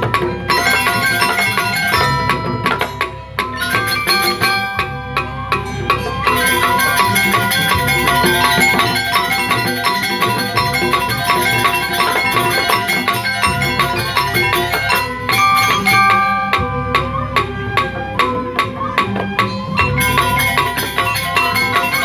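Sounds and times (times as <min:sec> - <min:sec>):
drum strokes: 0:00.0 - 0:22.0
struck metallophone notes: 0:00.0 - 0:22.0.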